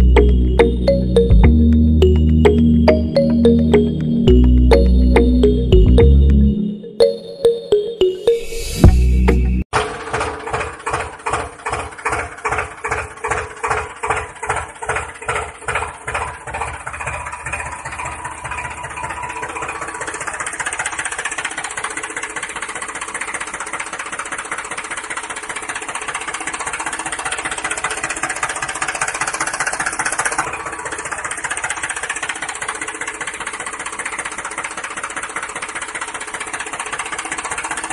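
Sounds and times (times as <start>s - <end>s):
tractor engine chugging: 0.0s - 6.4s, 8.9s - 37.9s.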